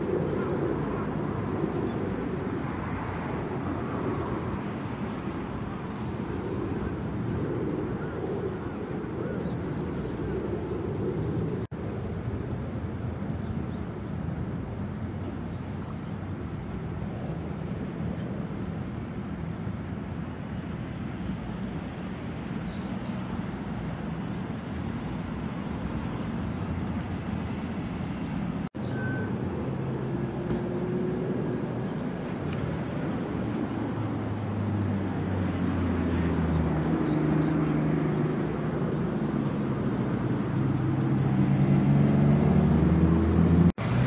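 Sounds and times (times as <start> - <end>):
car engines and exhaust: 0.0 - 44.0.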